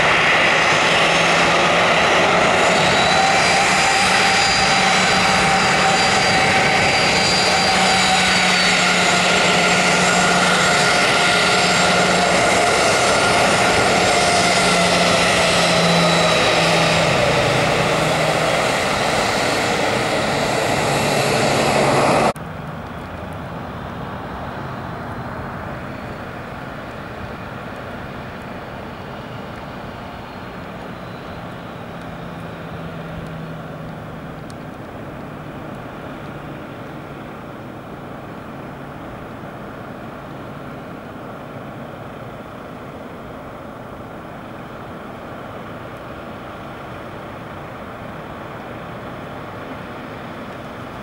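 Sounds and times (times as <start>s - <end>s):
jet engines rumble and hiss: 0.0s - 51.0s.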